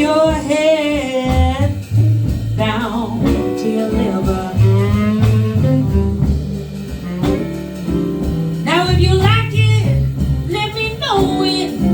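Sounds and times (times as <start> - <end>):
soul-jazz band playing: 0.0 - 11.9
steady bass: 0.0 - 11.9.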